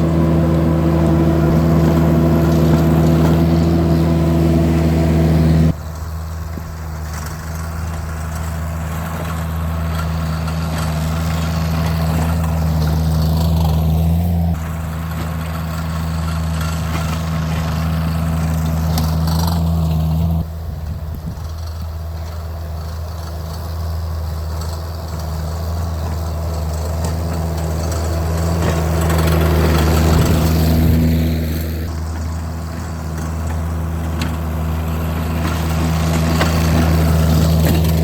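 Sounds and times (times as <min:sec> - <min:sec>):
compact loader engine running: 0:00.0 - 0:38.0.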